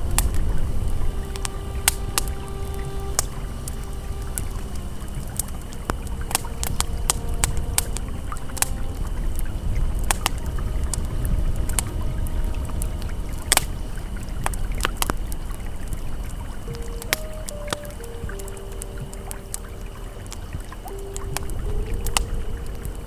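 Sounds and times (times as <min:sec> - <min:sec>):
campfire crackling: 0:00.0 - 0:23.0
faint ambient tones: 0:00.0 - 0:23.0
river flowing: 0:00.0 - 0:23.0.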